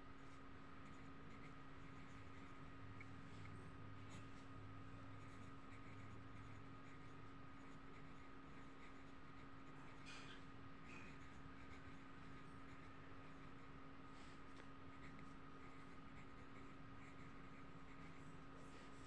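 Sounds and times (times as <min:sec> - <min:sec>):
steady faint hum: 0:00.0 - 0:19.0
pencil scratching on paper: 0:00.2 - 0:13.8, 0:14.9 - 0:19.0.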